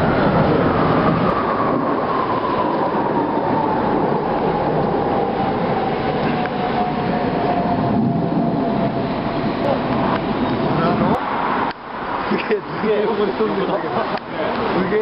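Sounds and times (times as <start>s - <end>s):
jet aircraft passing overhead: 0.0s - 15.0s.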